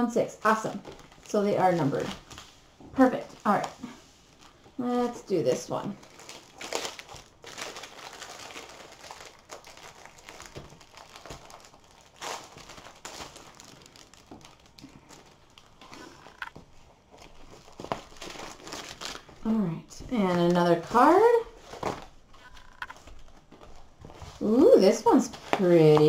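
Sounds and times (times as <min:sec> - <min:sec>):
plastic packaging crinkling: 0:00.8 - 0:05.3, 0:05.9 - 0:19.4, 0:20.3 - 0:26.0.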